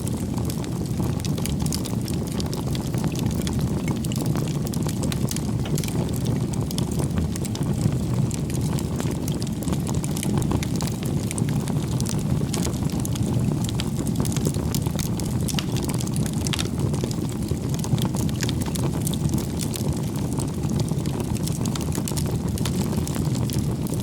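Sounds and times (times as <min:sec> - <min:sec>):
burning wood crackling: 0:00.0 - 0:24.0
flames rushing: 0:00.0 - 0:24.0.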